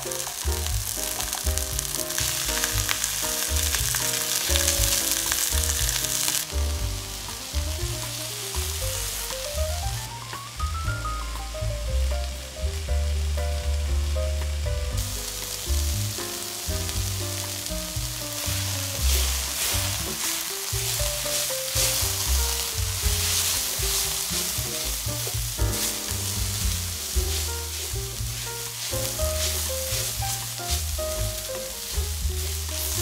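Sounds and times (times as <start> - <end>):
background music with melody: 0.0 - 33.0
vegetables sizzling in a pan: 0.0 - 33.0.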